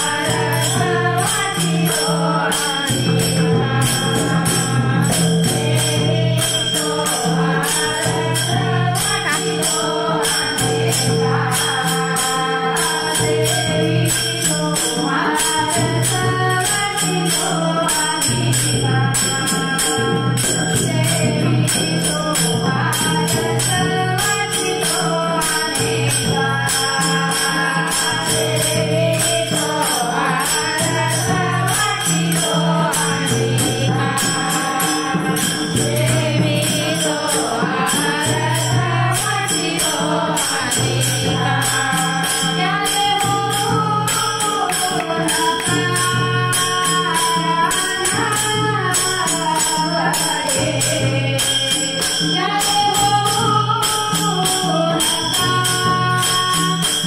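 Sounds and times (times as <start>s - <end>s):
devotional melody sung: 0.0s - 57.0s
small hand cymbals striking: 0.0s - 57.0s.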